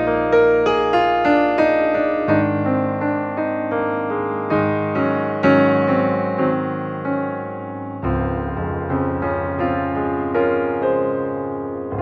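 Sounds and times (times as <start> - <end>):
melody notes over held chords: 0.0 - 12.0.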